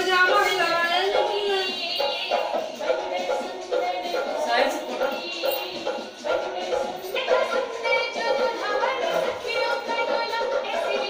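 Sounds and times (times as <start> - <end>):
high voices singing: 0.0 - 11.0.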